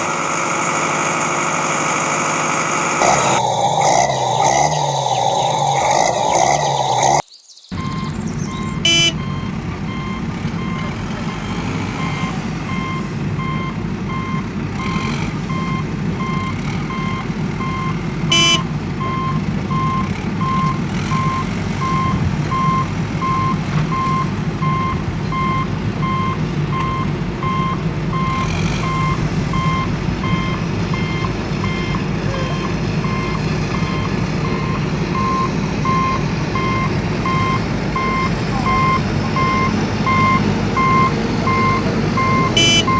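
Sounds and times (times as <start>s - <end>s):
diesel engine running: 0.0s - 42.9s
reversing alarm beeping: 3.0s - 42.9s.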